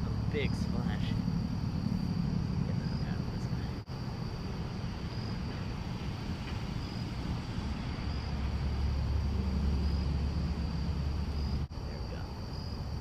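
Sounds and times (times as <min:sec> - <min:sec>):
strong low rumble: 0:00.0 - 0:12.3.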